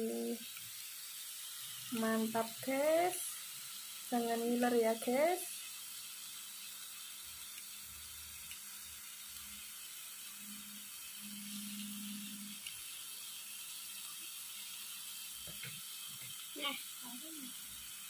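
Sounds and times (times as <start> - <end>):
mushrooms sizzling in a pan: 0.0 - 18.0.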